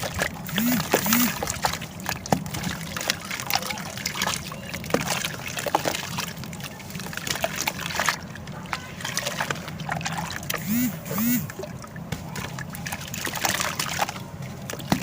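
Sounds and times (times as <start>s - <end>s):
water trickling and sloshing: 0.0s - 0.5s, 1.4s - 10.6s, 11.5s - 15.0s.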